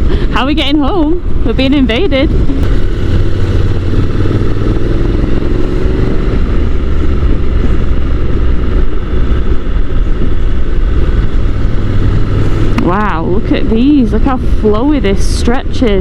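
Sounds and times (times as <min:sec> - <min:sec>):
motorcycle engine running: 0:00.0 - 0:16.0
wind noise: 0:00.0 - 0:16.0.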